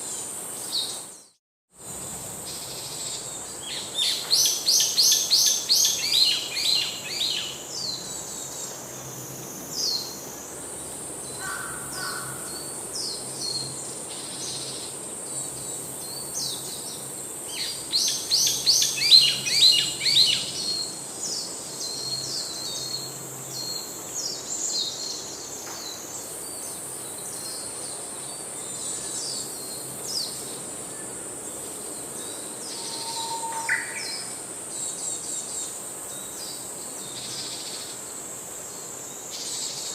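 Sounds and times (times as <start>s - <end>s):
high insect buzz: 0.0s - 39.9s
wild birds singing: 2.5s - 39.9s.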